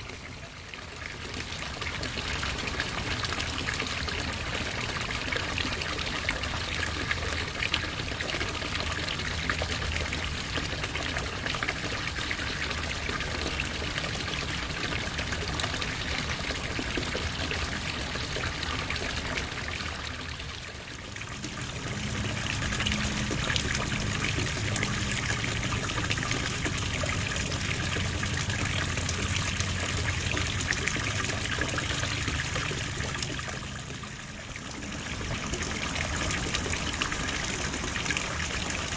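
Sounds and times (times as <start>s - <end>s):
water pouring into pond: 0.0s - 38.9s.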